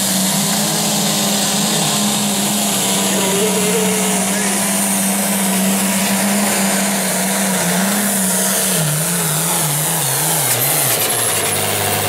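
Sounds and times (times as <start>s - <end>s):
tractor diesel engine at full power: 0.0s - 12.0s.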